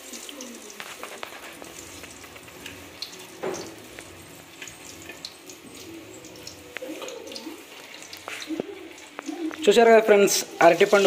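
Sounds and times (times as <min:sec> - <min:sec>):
fritters frying in hot oil: 0:00.0 - 0:11.0.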